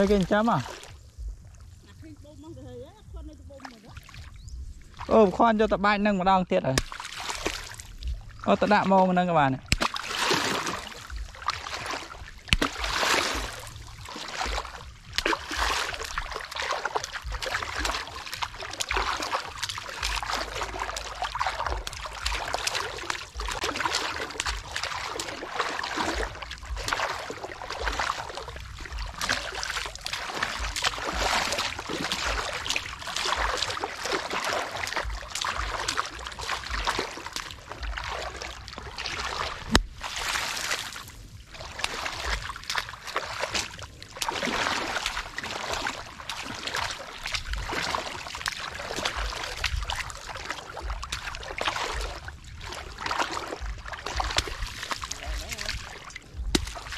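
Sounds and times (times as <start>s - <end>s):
water sloshing and splashing: 0.0s - 56.9s.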